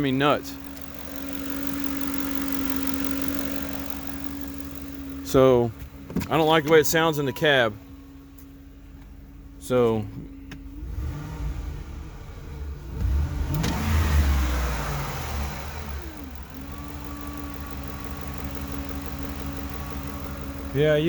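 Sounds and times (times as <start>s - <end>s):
vehicle engine revving: 0.0s - 7.0s, 10.6s - 21.0s
engine hum rising in pitch: 0.0s - 21.0s.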